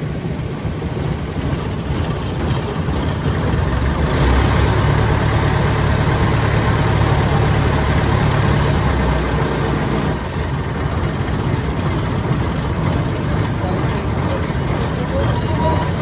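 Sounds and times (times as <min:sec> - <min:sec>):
motor engine humming: 0:00.0 - 0:16.0.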